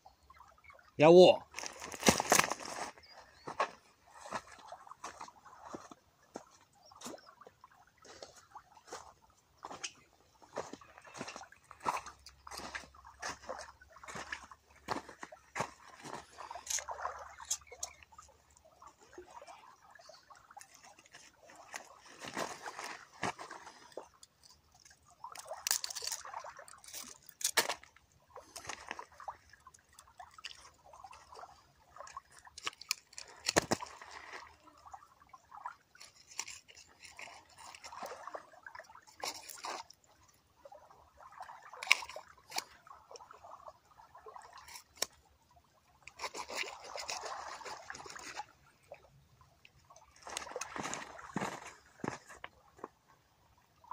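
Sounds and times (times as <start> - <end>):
small waves lapping: 0.0 - 53.9
clicks and scrapes on stony ground: 1.4 - 7.4, 8.0 - 19.1, 20.0 - 40.3, 41.2 - 43.6, 44.4 - 45.3, 46.0 - 53.1.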